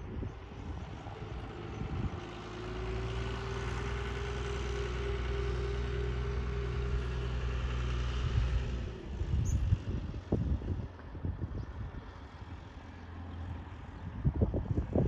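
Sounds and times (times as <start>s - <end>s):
tractor engine running: 0.1s - 15.0s.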